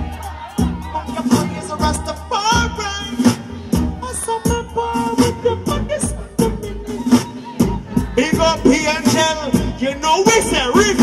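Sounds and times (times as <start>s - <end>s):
dancehall backing track with drum beat: 0.0s - 11.0s.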